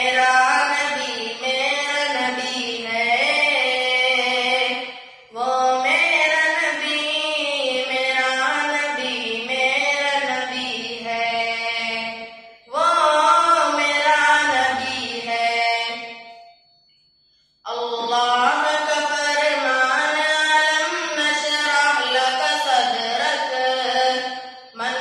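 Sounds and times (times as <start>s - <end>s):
boy singing devotional song: 0.0s - 16.2s, 17.7s - 25.0s.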